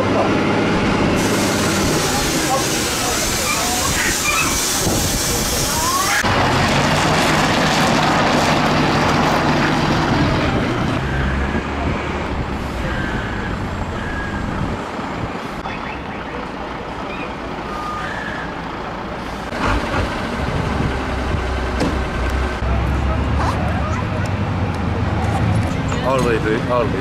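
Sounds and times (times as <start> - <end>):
truck diesel engine running: 0.0 - 27.0.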